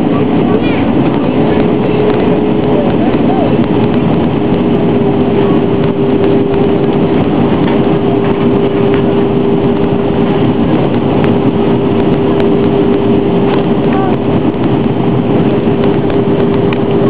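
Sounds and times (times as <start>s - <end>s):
airliner cabin engine rush: 0.0s - 17.0s
steady cabin hum: 0.0s - 17.0s.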